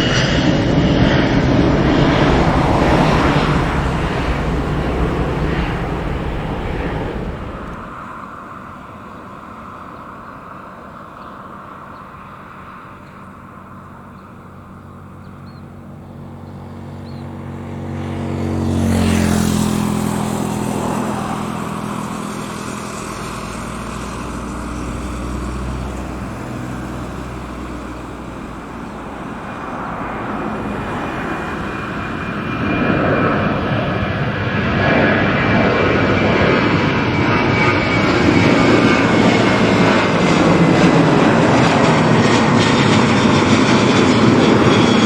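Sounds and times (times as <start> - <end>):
jet airliner taking off: 0.0 - 45.0.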